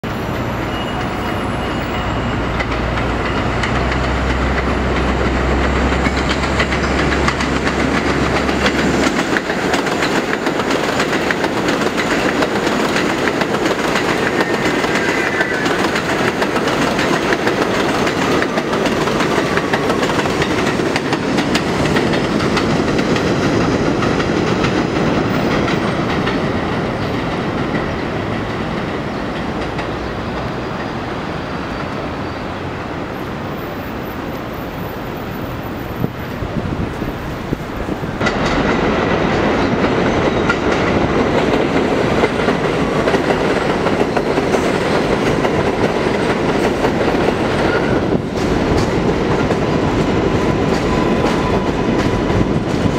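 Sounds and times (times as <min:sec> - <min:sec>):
train wheels clattering over rails: 0:00.3 - 0:32.3, 0:34.8 - 0:52.9.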